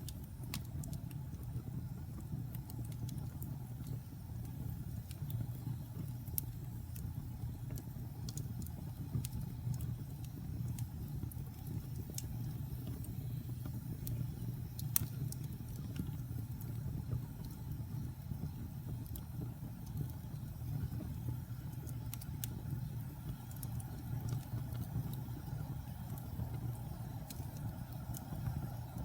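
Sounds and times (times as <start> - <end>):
low fire rumble: 0.0 - 29.0
wood fire crackling and popping: 0.0 - 29.0.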